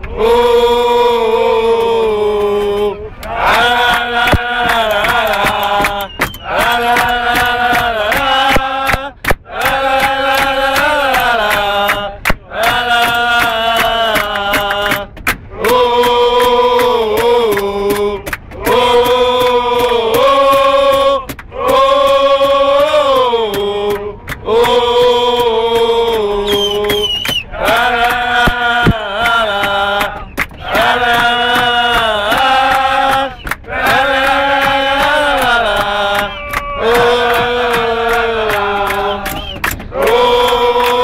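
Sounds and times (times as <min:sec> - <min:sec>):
men chanting in unison: 0:00.1 - 0:41.0
hands slapping a beat: 0:03.9 - 0:24.8, 0:25.4 - 0:41.0.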